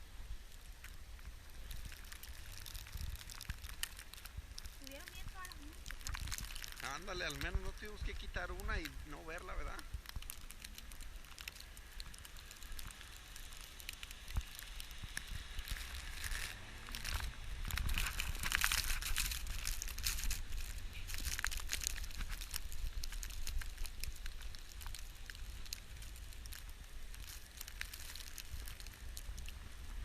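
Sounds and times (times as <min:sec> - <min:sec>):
rustling: 0:00.5 - 0:30.0.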